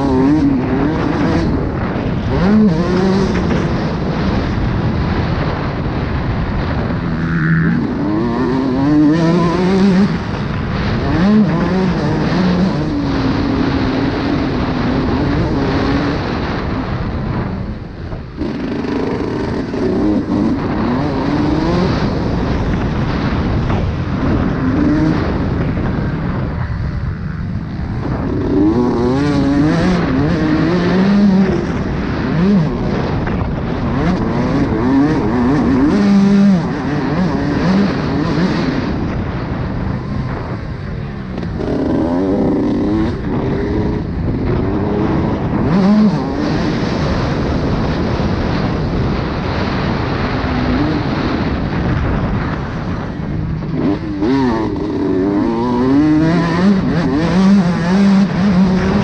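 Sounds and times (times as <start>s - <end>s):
motocross bike engine revving: 0.0s - 59.0s
steady rushing noise: 0.0s - 59.0s.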